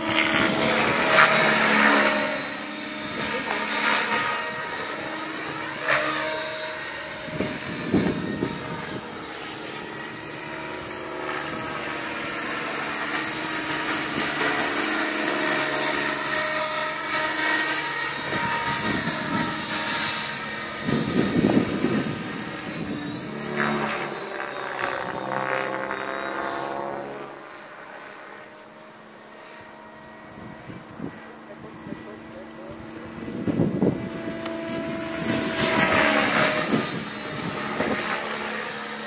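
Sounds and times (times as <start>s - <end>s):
model helicopter motor and rotor whine: 0.0s - 39.0s.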